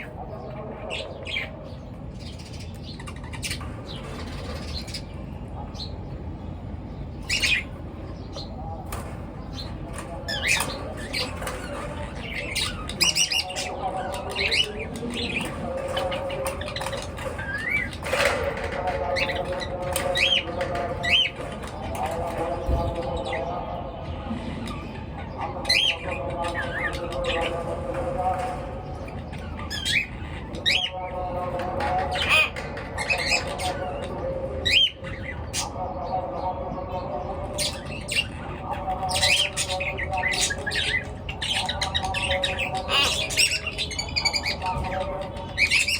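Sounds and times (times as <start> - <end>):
birds squawking and chirping: 0.0 - 45.9.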